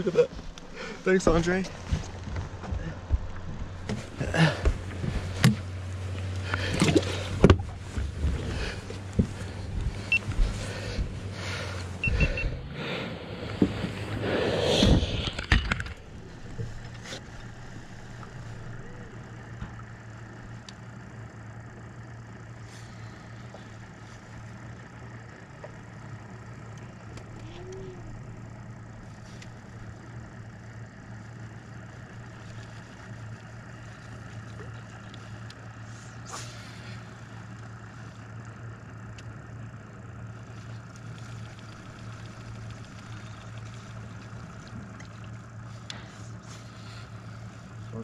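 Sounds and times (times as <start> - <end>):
electric boat motor humming: 0.0 - 48.0.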